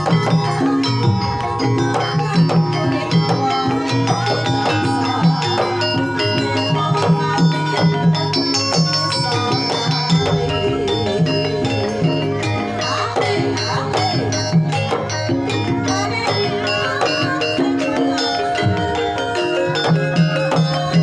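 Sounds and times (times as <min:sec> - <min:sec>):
drum strokes: 0:00.0 - 0:21.0
metallophones ringing: 0:00.0 - 0:21.0.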